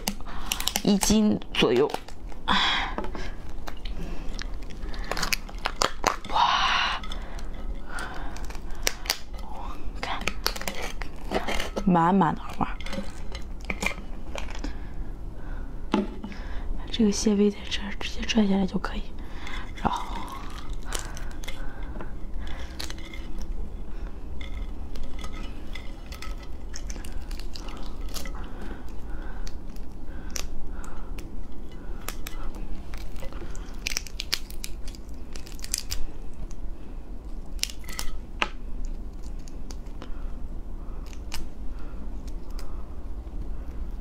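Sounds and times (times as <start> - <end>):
crab shell cracking: 0.0 - 14.8, 19.4 - 23.7, 24.4 - 36.6, 37.3 - 40.2, 40.9 - 41.6, 42.2 - 42.8.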